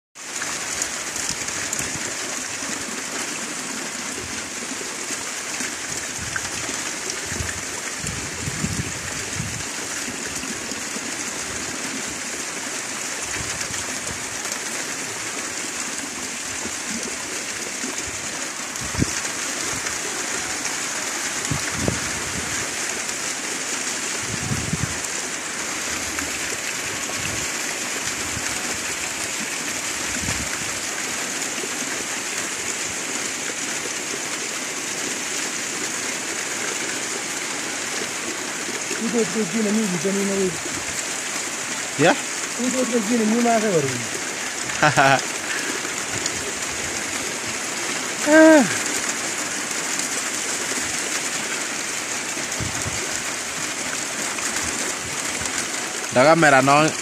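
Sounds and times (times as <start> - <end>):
rain falling: 0.2 - 57.0.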